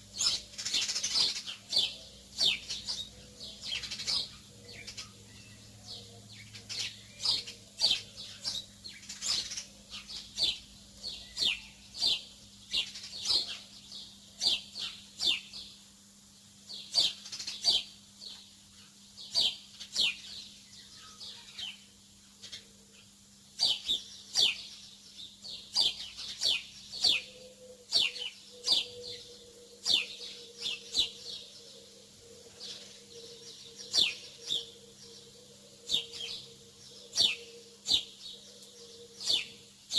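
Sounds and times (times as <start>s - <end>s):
faint low hum: 0.0s - 39.9s
small birds chirping: 0.0s - 39.9s.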